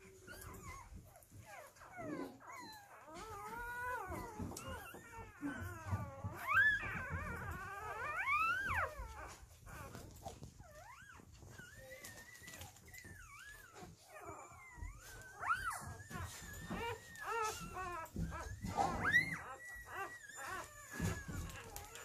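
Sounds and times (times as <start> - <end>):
puppies whining and squealing: 0.0 - 22.0.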